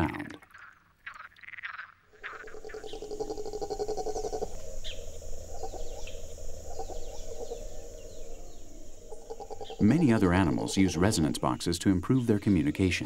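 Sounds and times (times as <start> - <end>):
frogs trilling: 0.0 - 13.0
high insect buzz: 1.1 - 12.6.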